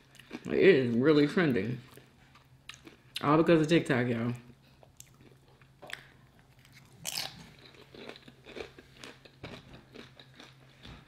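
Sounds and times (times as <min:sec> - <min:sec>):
person chewing with crunches: 0:00.0 - 0:03.3, 0:04.4 - 0:11.0.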